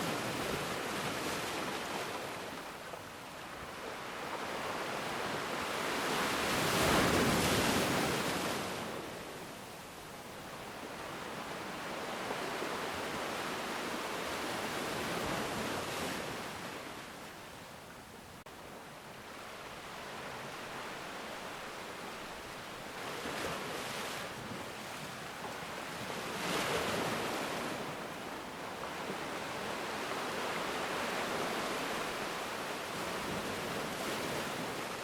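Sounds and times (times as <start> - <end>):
ocean waves breaking on beach: 0.0 - 35.0.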